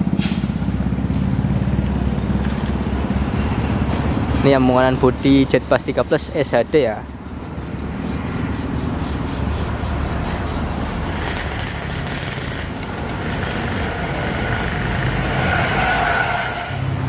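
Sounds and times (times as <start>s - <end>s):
traffic rumble: 0.0s - 17.0s
vehicle approaching: 0.0s - 17.0s.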